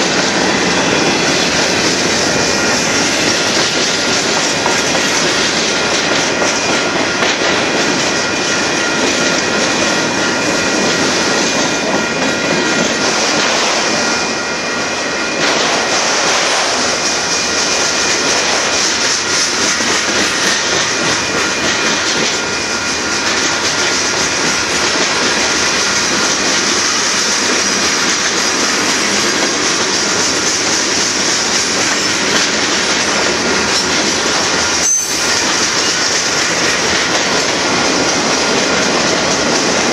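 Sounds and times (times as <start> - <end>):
clickety-clack of passing trucks: 0.0 - 14.3, 15.4 - 39.9
train wheels rumbling on rail: 0.0 - 39.9.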